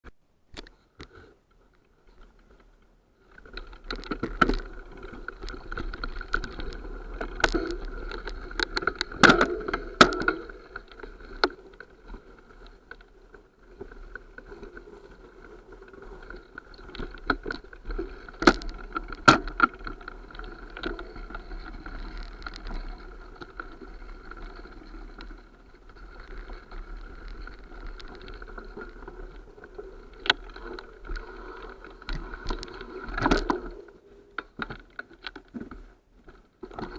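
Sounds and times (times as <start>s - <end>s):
bike rattling on rough trail: 2.0s - 36.9s.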